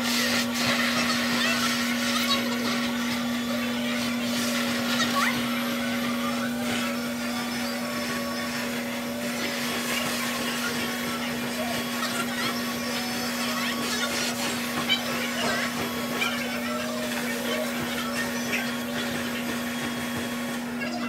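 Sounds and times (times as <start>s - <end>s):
blower motor humming: 0.0s - 21.0s.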